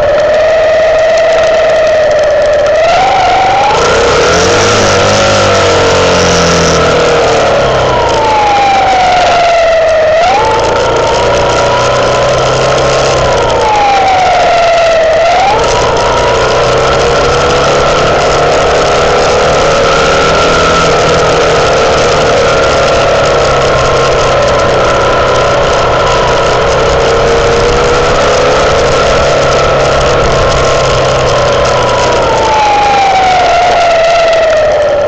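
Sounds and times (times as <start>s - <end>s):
constant rushing noise: 0.0s - 35.0s
motorcycle engine running: 0.0s - 35.0s.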